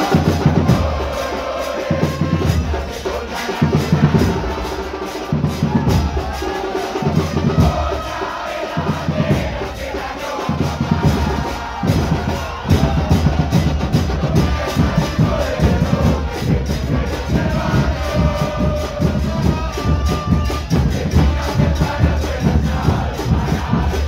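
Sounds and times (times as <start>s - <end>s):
bass drums beating: 0.0s - 1.3s, 3.6s - 8.2s, 8.8s - 24.0s
football crowd chanting: 0.0s - 24.0s.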